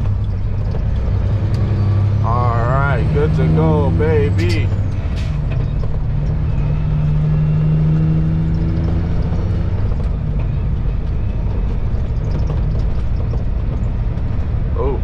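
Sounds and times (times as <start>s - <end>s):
diesel truck engine pulling away: 0.0s - 15.0s.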